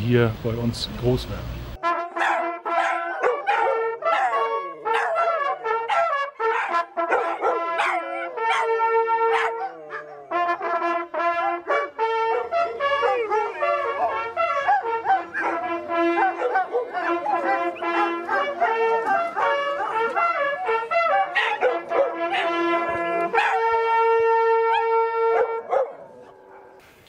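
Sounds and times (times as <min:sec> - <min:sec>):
hunting horns playing fanfare: 0:00.0 - 0:26.8.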